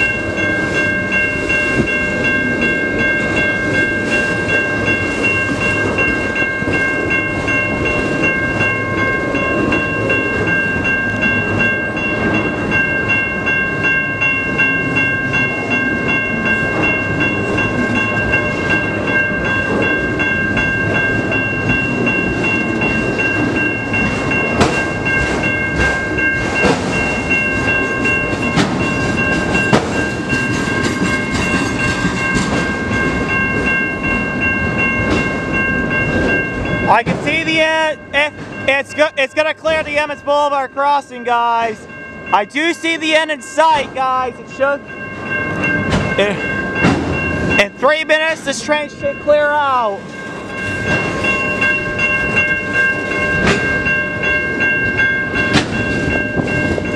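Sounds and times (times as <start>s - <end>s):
crossing warning bell ringing: 0.0s - 56.9s
train wheels rumbling and clattering: 0.0s - 56.9s.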